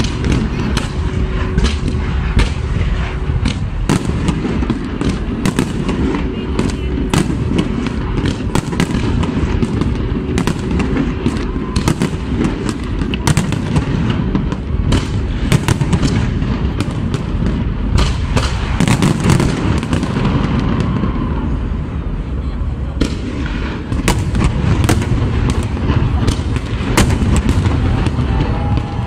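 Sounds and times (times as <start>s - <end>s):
deep rumble: 0.0s - 29.0s
fireworks bangs and crackles: 0.0s - 29.0s.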